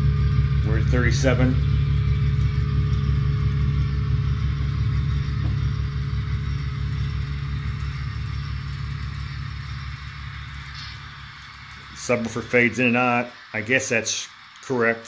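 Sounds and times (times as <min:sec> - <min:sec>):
deep diesel engine rumble: 0:00.0 - 0:15.0.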